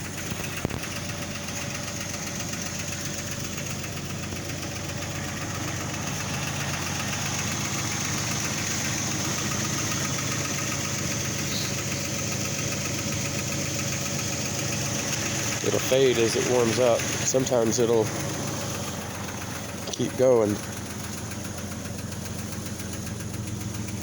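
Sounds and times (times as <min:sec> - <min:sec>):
car engine idling: 0:00.0 - 0:24.0
fast light engine ticking: 0:00.0 - 0:24.0.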